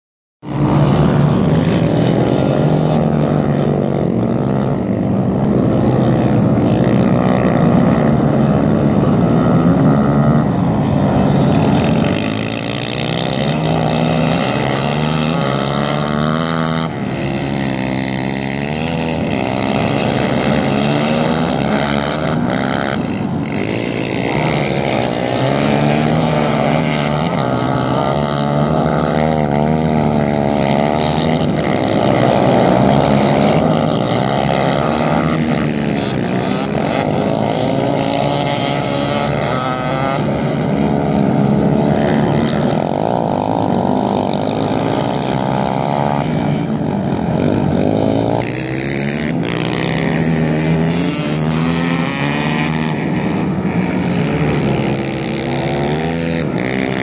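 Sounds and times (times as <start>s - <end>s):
quad engines revving: 0.4s - 57.0s.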